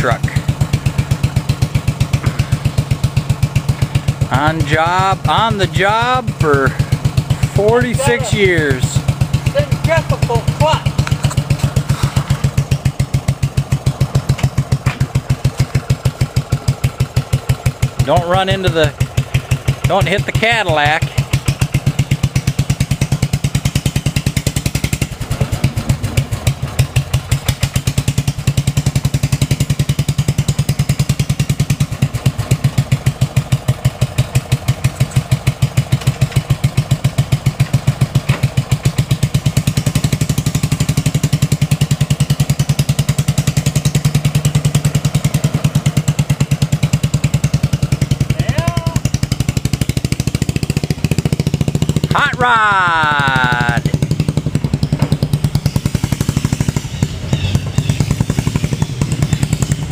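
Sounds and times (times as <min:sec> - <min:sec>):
loud tractor engine chugging: 0:00.0 - 0:59.9.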